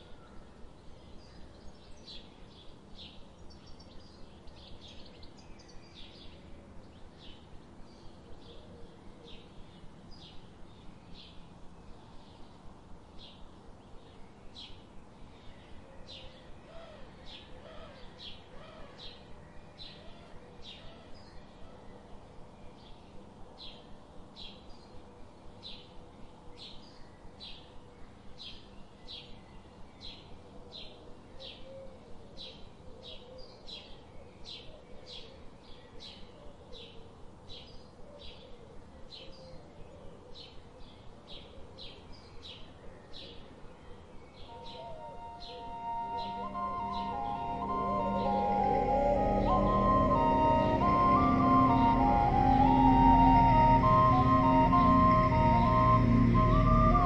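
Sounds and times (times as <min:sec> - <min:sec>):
faint outdoor background noise: 0:00.0 - 0:57.0.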